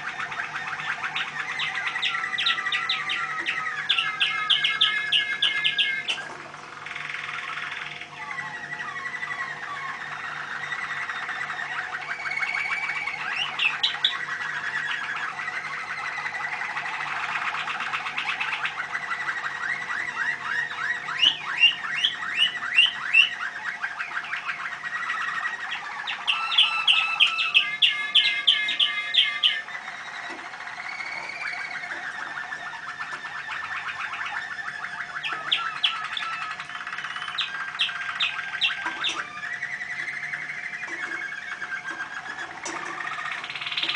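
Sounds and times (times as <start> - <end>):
canaries singing: 0.0 - 43.9.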